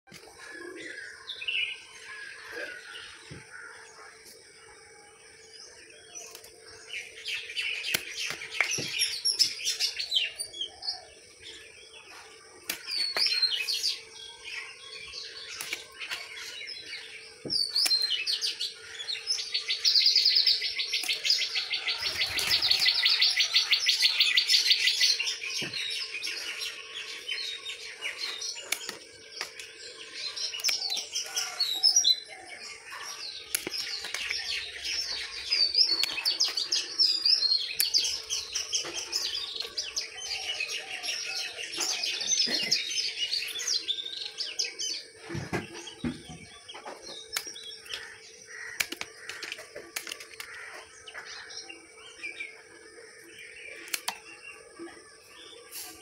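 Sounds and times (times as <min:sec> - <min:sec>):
small birds chirping: 0:00.1 - 0:56.0.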